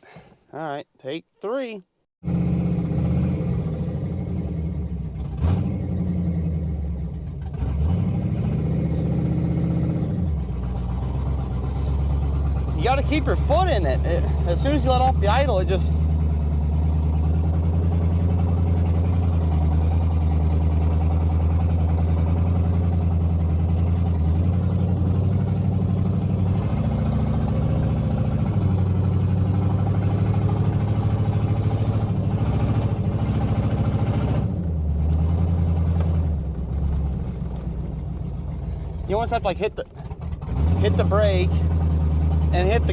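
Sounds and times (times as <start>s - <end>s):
car engine revving up and down: 2.2s - 42.9s.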